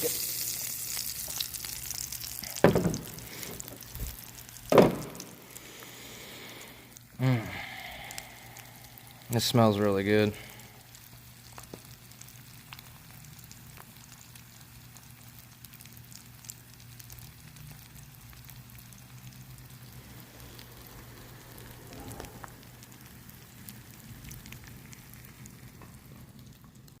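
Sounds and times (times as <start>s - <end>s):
food sizzling in a skillet: 0.0s - 27.0s
low steady hum: 1.6s - 15.2s, 16.5s - 27.0s.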